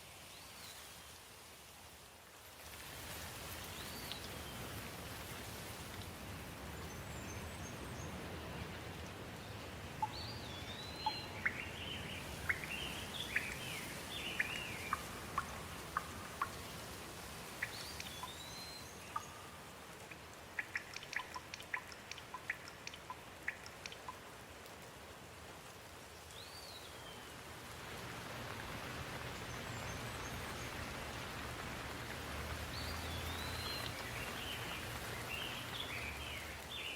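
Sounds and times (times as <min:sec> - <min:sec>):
steady rain: 0:00.0 - 0:36.9
sharp drips: 0:02.9 - 0:36.9.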